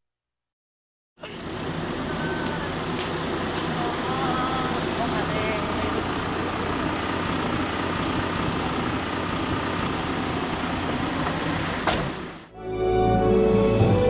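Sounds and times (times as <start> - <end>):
minibus engine humming: 1.2 - 14.0.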